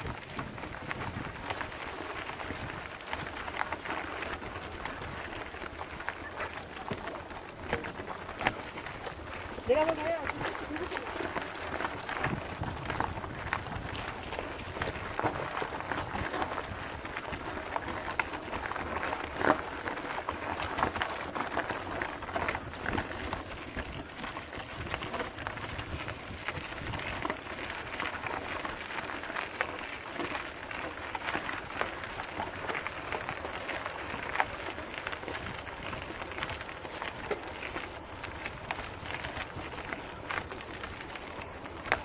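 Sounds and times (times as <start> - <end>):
footsteps crunching on rocky trail: 0.0 - 42.0.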